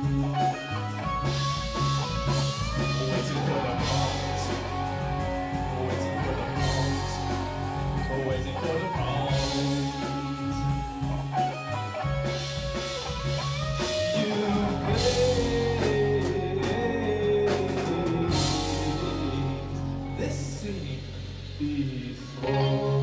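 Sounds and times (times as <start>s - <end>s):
drum kit with cymbal crashes: 0.0s - 22.8s
bass guitar: 0.0s - 23.0s
electric guitar: 0.0s - 23.0s.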